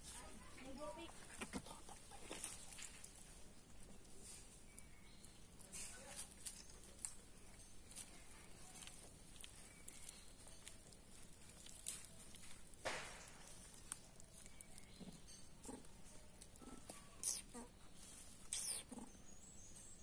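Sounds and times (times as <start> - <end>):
dry leaves rustling: 0.0 - 16.9.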